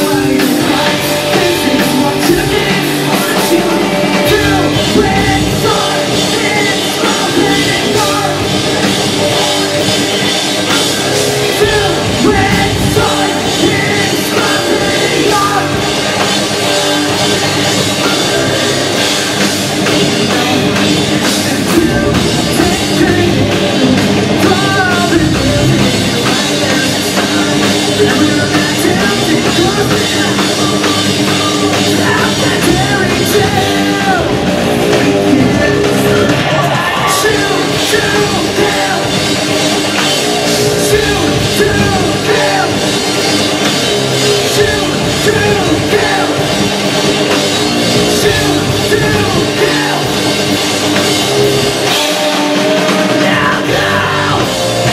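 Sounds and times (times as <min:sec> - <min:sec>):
man singing: 0:00.0 - 0:50.6, 0:51.9 - 0:54.9
punk rock band playing: 0:00.0 - 0:54.9.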